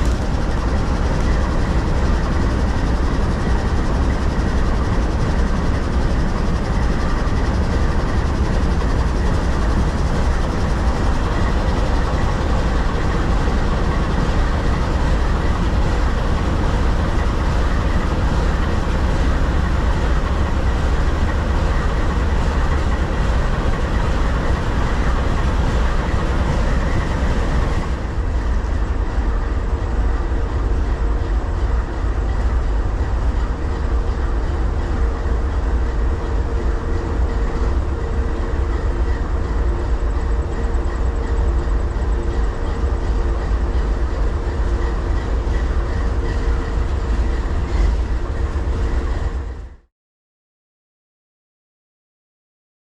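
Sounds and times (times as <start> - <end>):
train rumbling on tracks: 0.0 - 49.9.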